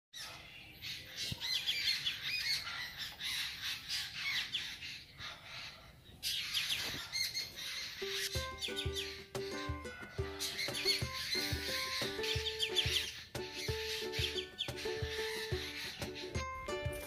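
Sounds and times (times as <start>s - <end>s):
small birds chirping and twittering: 0.2s - 17.0s.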